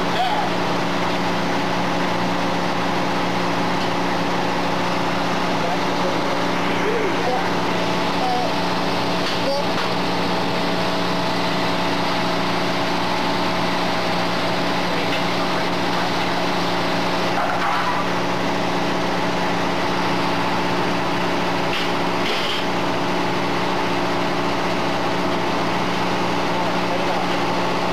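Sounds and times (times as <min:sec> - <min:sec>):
engine humming steadily: 0:00.0 - 0:27.9.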